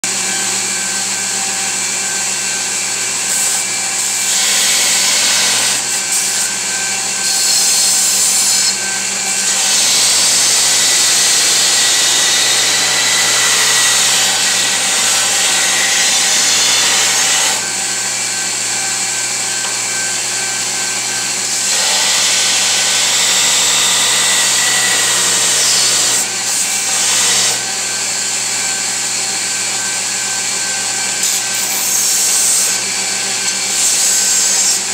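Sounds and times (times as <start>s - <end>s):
belt grinder motor humming: 0.0s - 34.9s.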